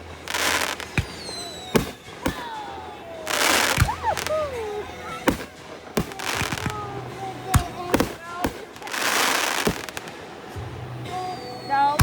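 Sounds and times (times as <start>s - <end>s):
firework hiss and whistles: 0.0s - 12.0s
fireworks bangs: 0.0s - 12.0s.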